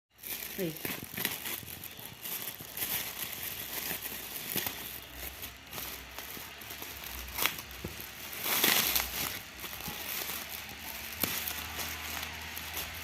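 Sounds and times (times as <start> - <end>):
packaging rustling and crinkling: 0.1 - 13.0.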